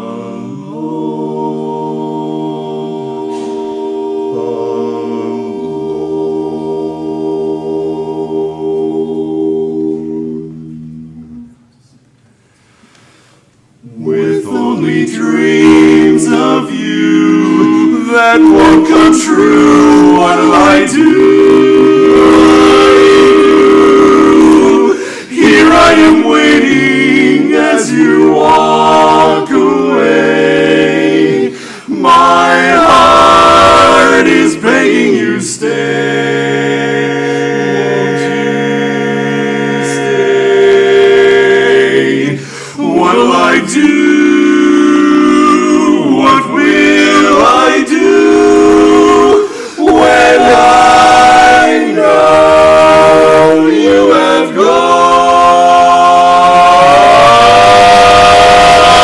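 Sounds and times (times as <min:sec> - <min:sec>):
male quartet singing a cappella: 0:00.0 - 0:11.7, 0:13.8 - 0:59.0.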